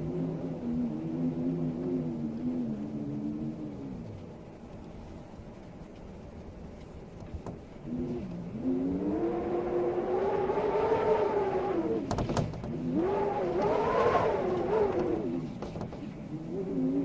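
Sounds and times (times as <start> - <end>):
wind howling in gusts: 0.0 - 17.0.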